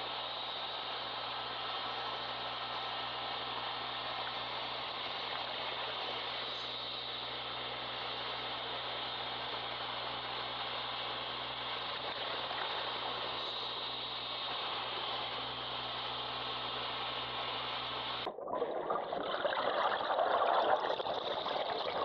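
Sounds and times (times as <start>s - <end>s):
steady hiss and hum: 0.0s - 22.0s.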